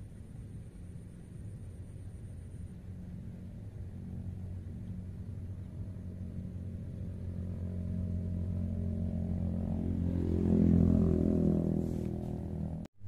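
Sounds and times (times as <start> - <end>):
engine running: 0.0 - 12.9.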